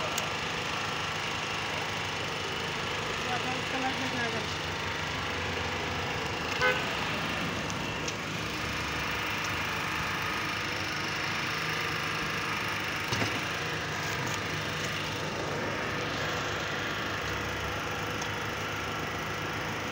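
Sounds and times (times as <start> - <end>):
engine humming: 0.0 - 19.9.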